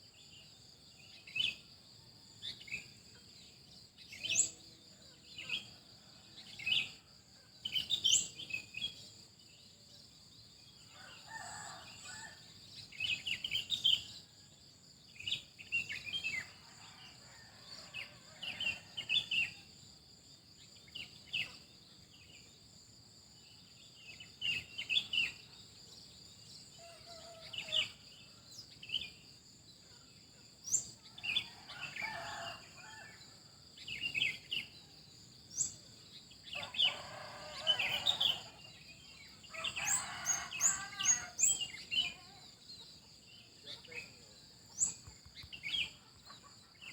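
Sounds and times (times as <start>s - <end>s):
wild birds chirping: 0.0s - 46.9s.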